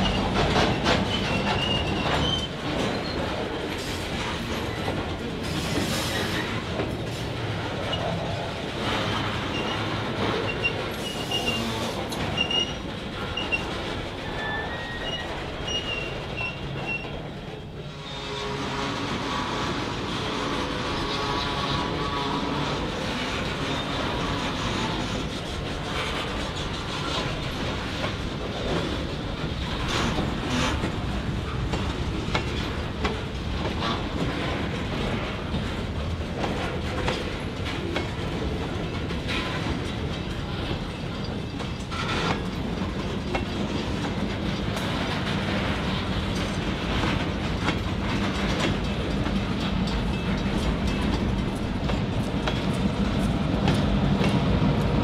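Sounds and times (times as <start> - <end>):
diesel locomotive drone: 0.0 - 55.0
freight cars rumbling: 0.0 - 55.0
train wheels clicking over rail joints: 0.0 - 55.0.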